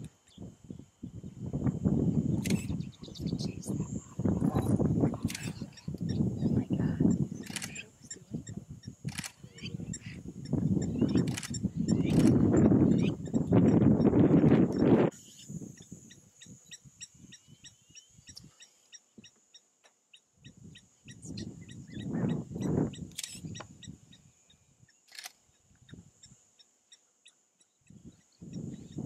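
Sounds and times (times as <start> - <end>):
wind buffeting microphone: 0.0 - 18.5, 20.4 - 24.3, 27.9 - 29.0.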